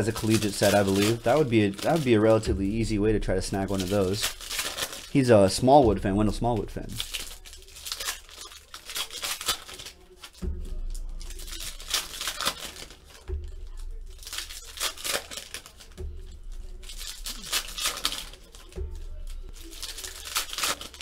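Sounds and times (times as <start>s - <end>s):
foil wrappers tearing and crinkling: 0.0s - 21.0s.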